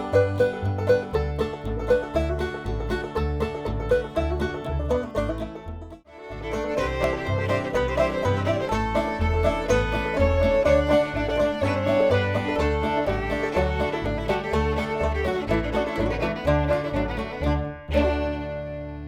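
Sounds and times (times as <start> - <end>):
bluegrass music with banjo and fiddle: 0.0 - 19.0.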